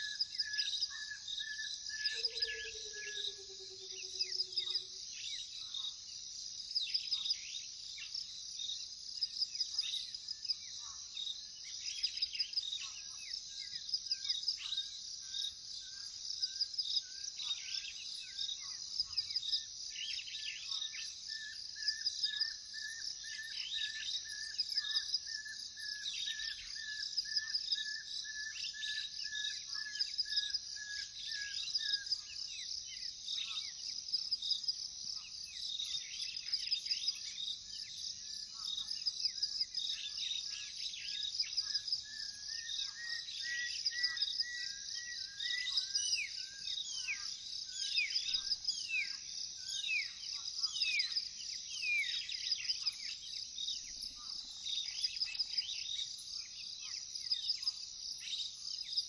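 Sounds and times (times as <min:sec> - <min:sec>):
bird chirps: 0:00.0 - 0:06.0, 0:06.7 - 0:59.0.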